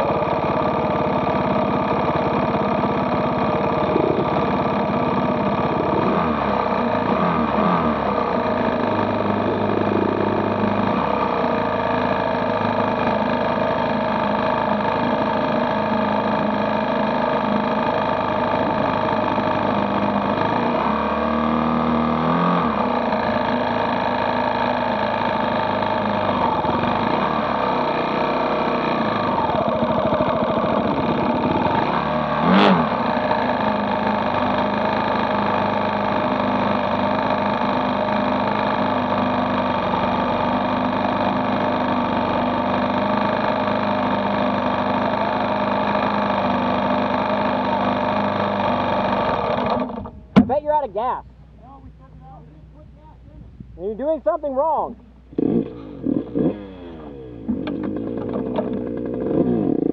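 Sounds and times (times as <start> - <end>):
loud throttle blip: 0.0 - 40.4, 49.0 - 59.9
dirt bike engine idling: 0.0 - 59.9
dirt bike engines revving: 0.0 - 59.9.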